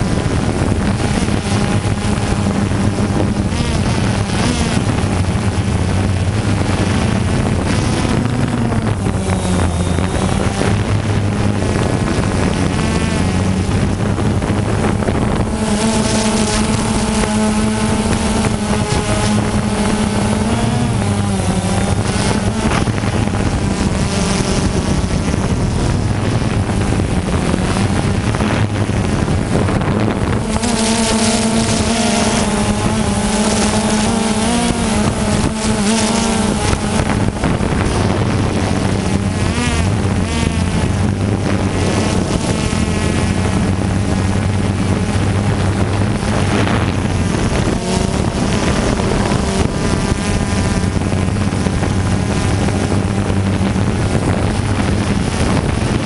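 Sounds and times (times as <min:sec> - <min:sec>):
drone motors buzzing: 0:00.0 - 0:56.0.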